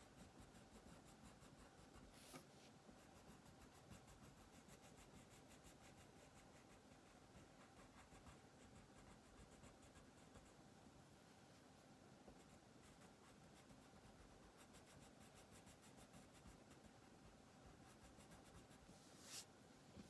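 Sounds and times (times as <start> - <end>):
crayon scratching on paper: 0.0 - 10.6, 12.3 - 19.5.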